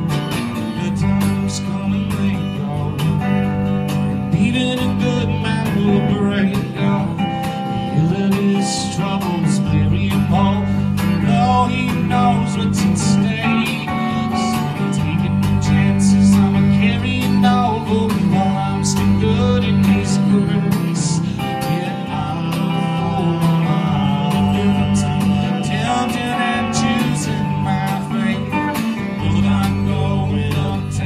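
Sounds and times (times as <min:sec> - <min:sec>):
acoustic guitar strumming: 0:00.0 - 0:31.0
electric guitar: 0:00.0 - 0:31.0.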